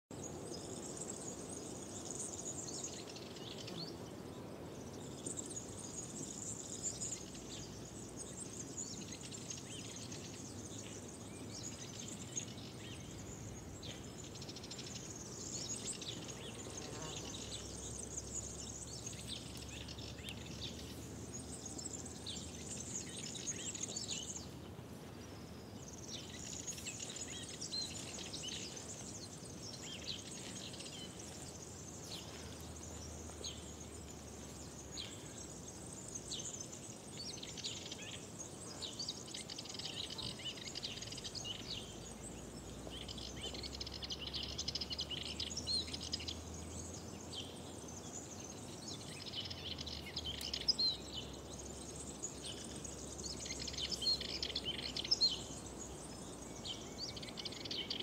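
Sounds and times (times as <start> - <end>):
small birds singing and chirping: 0.0 - 58.0
low background noise: 0.1 - 58.0.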